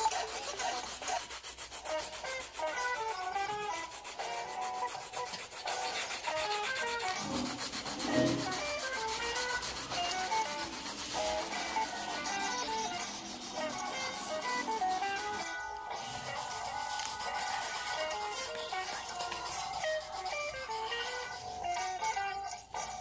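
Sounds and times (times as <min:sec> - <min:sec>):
pencil scratching on paper: 0:00.0 - 0:21.6
soft melodic music: 0:02.0 - 0:22.9.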